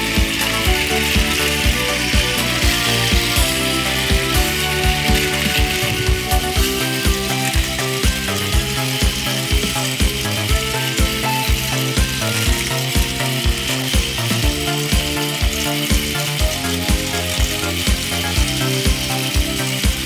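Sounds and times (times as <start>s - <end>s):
toy train motors whirring: 0.0s - 20.0s
wheels clicking over track joints: 0.0s - 20.0s.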